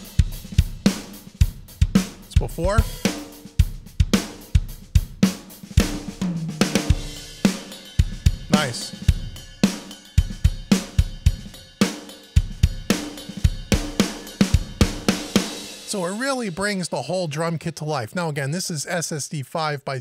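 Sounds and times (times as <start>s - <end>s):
drum kit playing a groove: 0.0s - 18.8s.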